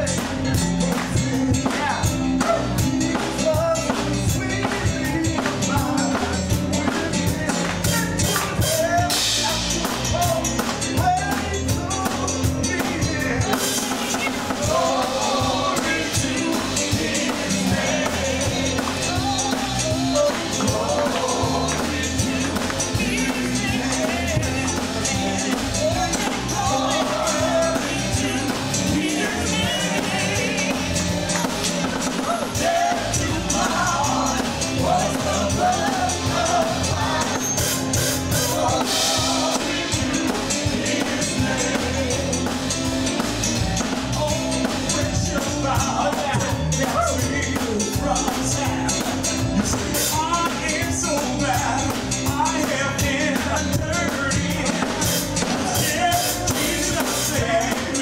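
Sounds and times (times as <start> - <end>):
drum kit: 0.0 - 58.0
musical accompaniment: 0.0 - 58.0
people singing a hymn: 11.4 - 58.0.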